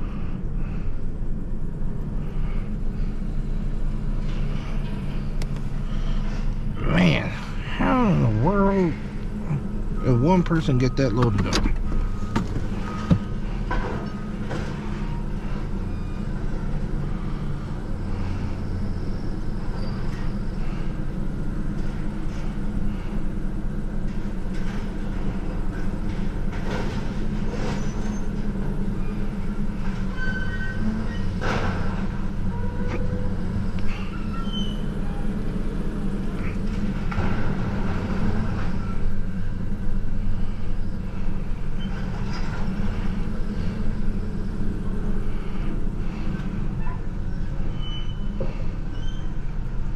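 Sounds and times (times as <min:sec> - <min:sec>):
large engine idling: 0:00.0 - 0:49.9.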